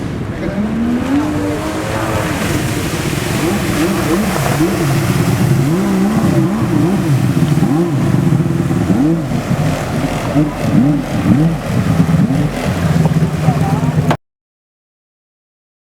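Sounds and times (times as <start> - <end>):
jet ski engine revving: 0.0 - 14.2.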